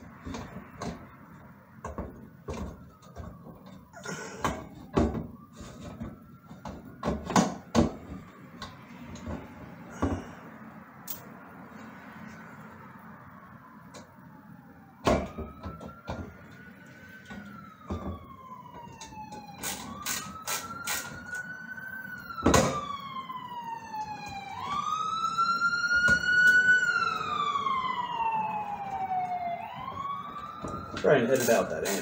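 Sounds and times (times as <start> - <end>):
ambulance siren wailing: 0.0 - 32.0.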